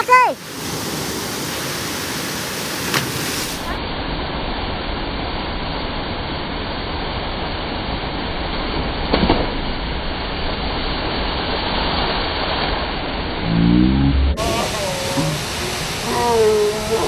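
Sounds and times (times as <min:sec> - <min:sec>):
waterfall roar: 0:00.0 - 0:17.0.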